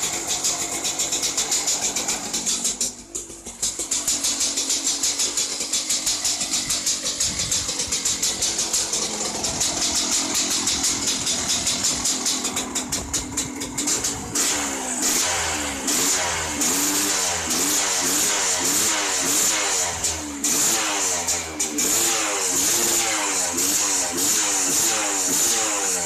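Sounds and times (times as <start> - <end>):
two-stroke engine idling: 0.0 - 26.0.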